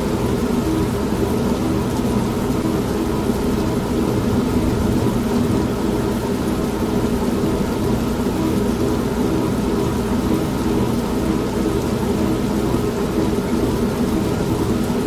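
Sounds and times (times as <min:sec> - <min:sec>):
washing machine motor hum: 0:00.0 - 0:15.0
rain falling: 0:00.1 - 0:15.0.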